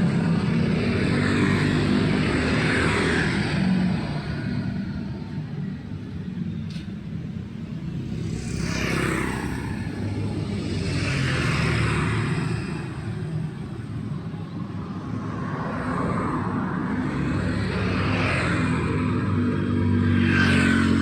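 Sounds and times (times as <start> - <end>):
road traffic rumble: 0.0 - 21.0
vehicles passing: 0.0 - 21.0.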